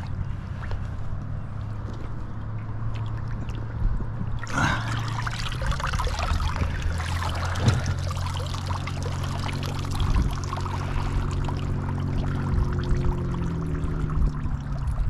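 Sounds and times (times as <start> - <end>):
water splashing and trickling: 0.0 - 1.2, 2.5 - 15.0
low motor hum: 0.0 - 15.0.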